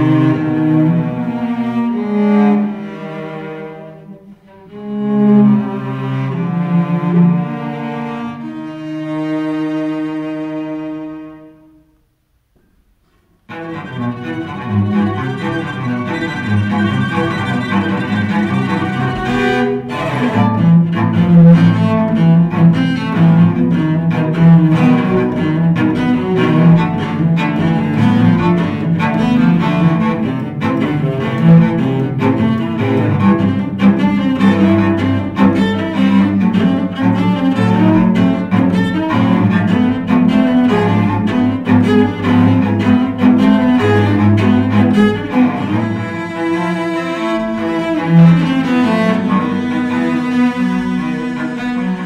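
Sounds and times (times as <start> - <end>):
cello duet: 0.0 - 52.0.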